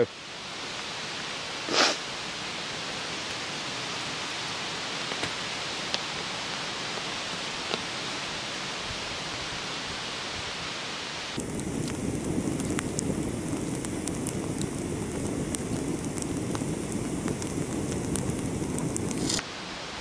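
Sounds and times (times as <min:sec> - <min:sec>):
outdoor background hiss: 0:00.0 - 0:20.0
wood fire crackling: 0:00.0 - 0:20.0.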